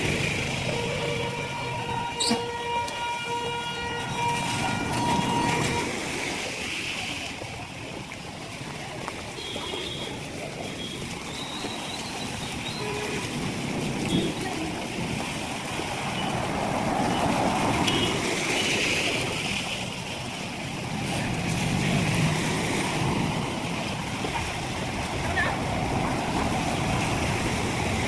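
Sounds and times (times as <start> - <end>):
heavy rain: 0.0 - 28.0
running water: 0.0 - 28.0.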